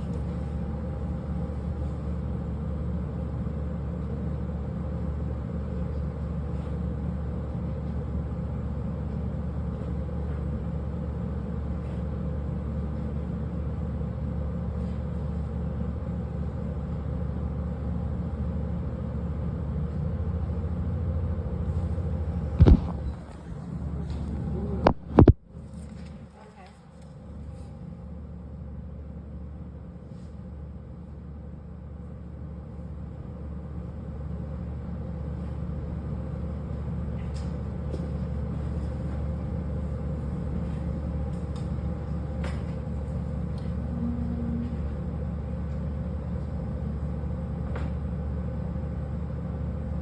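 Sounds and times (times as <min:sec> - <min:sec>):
low humming rumble: 0:00.0 - 0:50.0.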